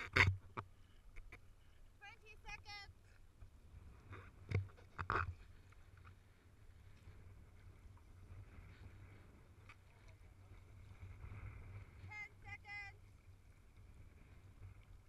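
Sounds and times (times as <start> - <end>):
low rumble of moving water: 0.0 - 15.0
water lapping against camera: 0.0 - 15.0.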